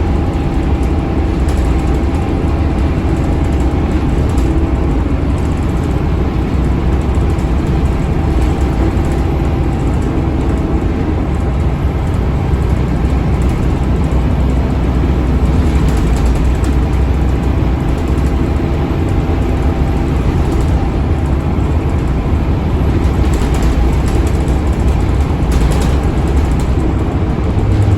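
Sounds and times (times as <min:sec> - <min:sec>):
bus diesel engine droning: 0:00.0 - 0:27.9
tyre and road noise: 0:00.0 - 0:27.9.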